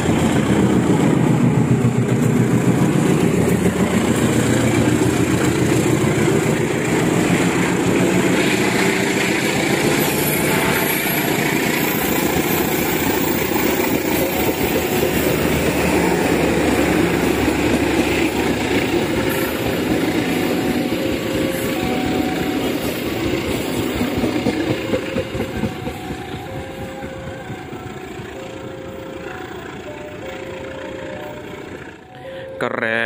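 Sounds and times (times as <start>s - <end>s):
train wheels rumbling on rails: 0.0s - 32.6s
diesel locomotive engine: 0.0s - 33.0s.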